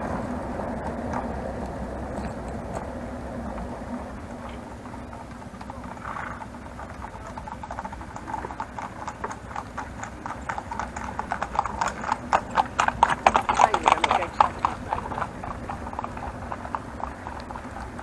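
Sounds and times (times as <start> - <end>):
horse hooves clip-clopping on asphalt: 0.0 - 18.0.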